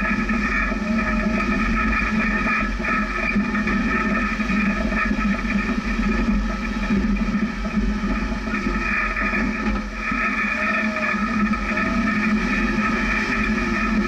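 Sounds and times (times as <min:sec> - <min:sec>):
engine running at low speed: 0:00.0 - 0:14.0.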